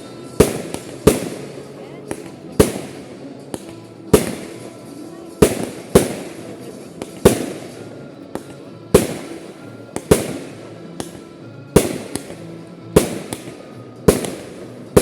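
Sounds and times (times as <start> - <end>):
fireworks bangs with echo: 0.0 - 15.0.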